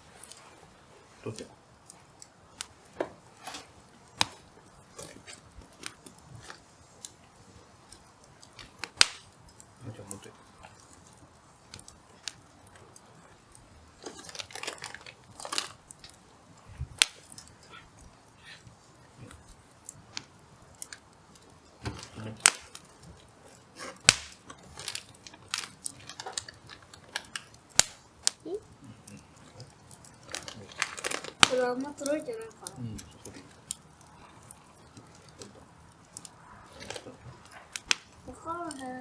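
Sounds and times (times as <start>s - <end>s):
fire crackling with pops: 0.0s - 39.0s.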